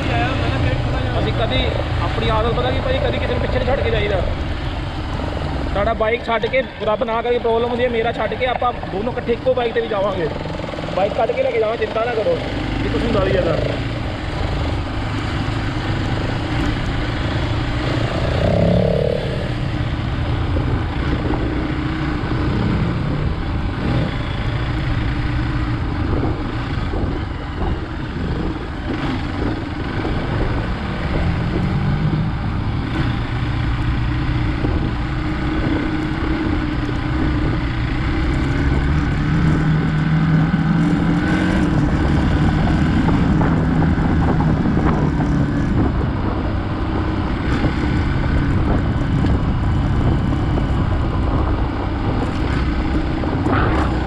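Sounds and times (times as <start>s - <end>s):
motorcycle engine running: 0.0s - 54.0s
steady rush of noise: 0.0s - 54.0s.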